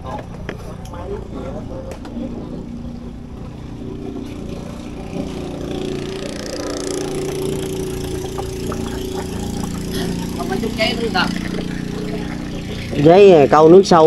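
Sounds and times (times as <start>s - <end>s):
small engine droning: 0.0s - 14.0s.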